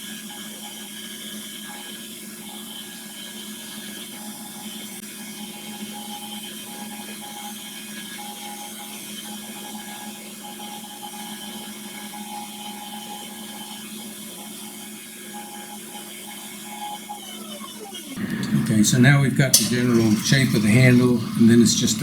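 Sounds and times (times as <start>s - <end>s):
power sander running: 0.0s - 22.0s.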